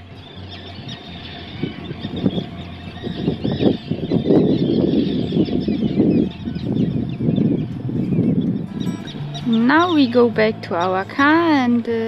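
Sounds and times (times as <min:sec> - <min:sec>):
gulls calling: 0:00.0 - 0:12.0
rough gusty rushing noise: 0:00.0 - 0:12.0.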